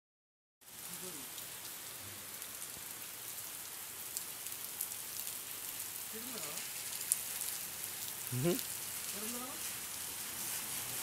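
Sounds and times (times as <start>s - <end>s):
rain hissing on standing water: 0.6s - 11.0s.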